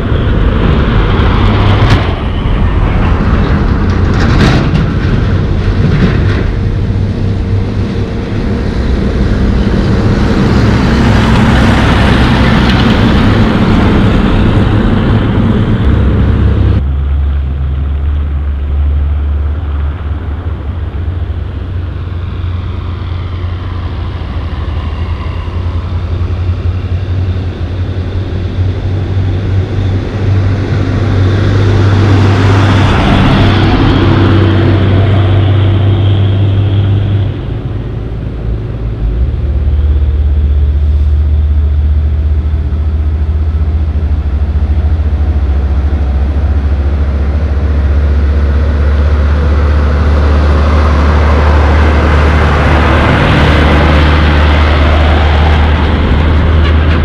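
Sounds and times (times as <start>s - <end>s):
road noise rushing: 0.0s - 57.0s
truck diesel engine drone: 0.0s - 57.0s.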